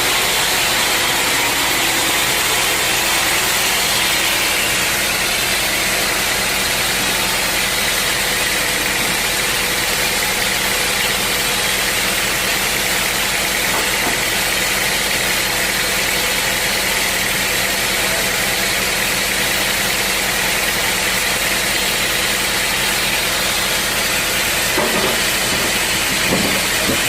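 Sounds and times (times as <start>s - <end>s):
engine hum: 0.0s - 16.0s, 19.8s - 27.0s.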